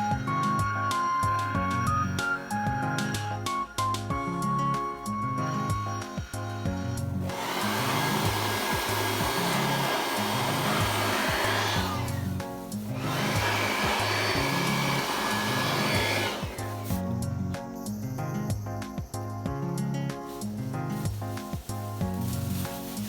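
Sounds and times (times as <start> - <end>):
loud rushing hiss: 0.0 - 4.1, 5.0 - 23.0
background music with bass: 0.0 - 23.0.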